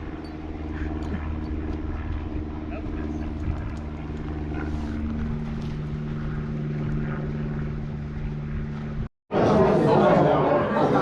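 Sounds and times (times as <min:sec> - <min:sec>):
engine running: 0:00.0 - 0:09.7.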